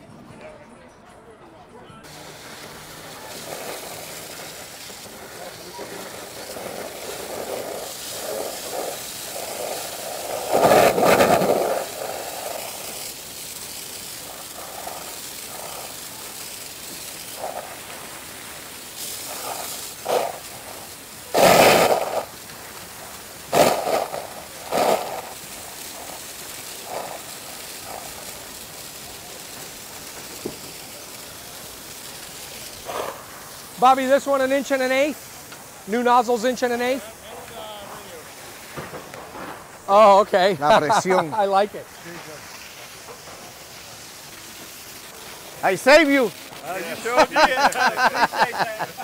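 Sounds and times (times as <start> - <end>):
hose water jet spraying: 2.0 - 49.0.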